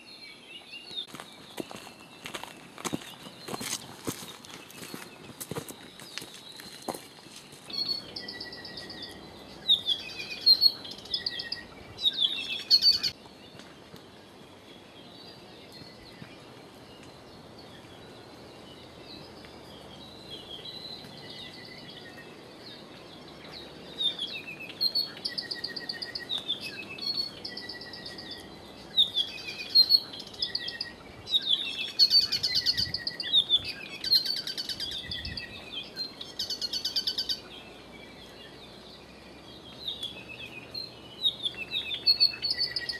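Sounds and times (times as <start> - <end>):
wild birds singing: 0.0 - 42.9.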